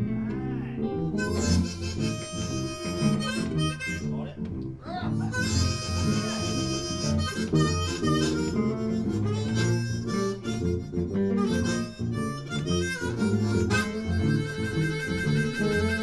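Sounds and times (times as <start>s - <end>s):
bass guitar: 0.0s - 16.0s
blues harmonica bending notes: 0.0s - 16.0s
guitar: 0.0s - 16.0s.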